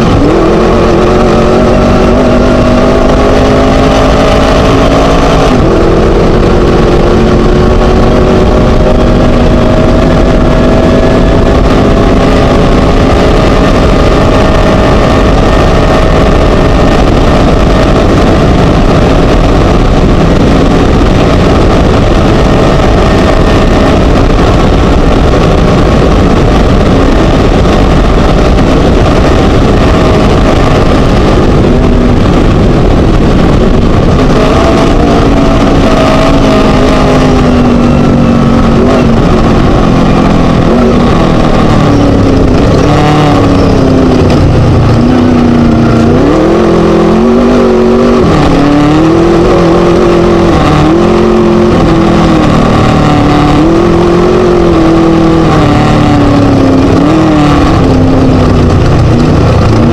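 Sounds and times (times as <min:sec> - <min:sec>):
buggy engine roaring: 0:00.0 - 0:59.9.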